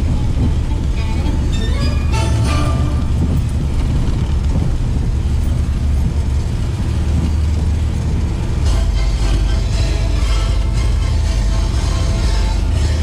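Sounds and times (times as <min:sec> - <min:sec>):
suv engine and tyre rumble: 0:00.0 - 0:13.0.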